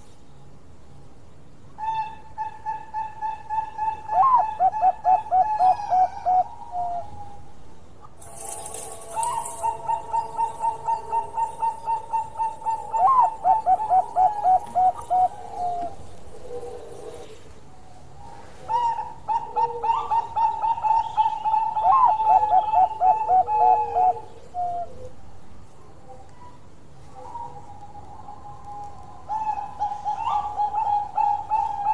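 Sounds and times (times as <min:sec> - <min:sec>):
dove cooing: 0:01.8 - 0:07.5, 0:08.3 - 0:31.9.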